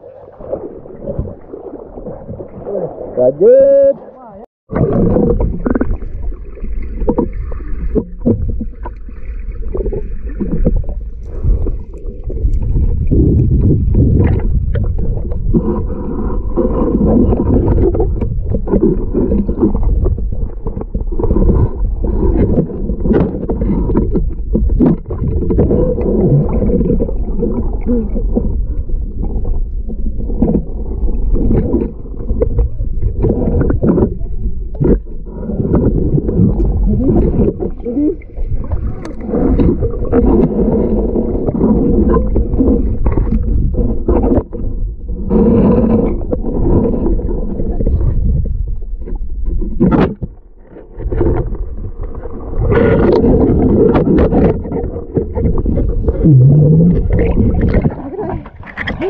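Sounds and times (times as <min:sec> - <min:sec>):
underwater rumble and gurgling: 0:00.0 - 0:59.0.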